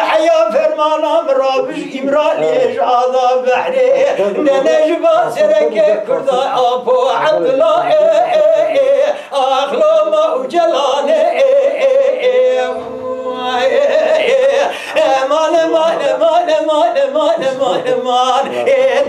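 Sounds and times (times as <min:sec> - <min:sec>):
man singing solo: 0:00.0 - 0:19.0.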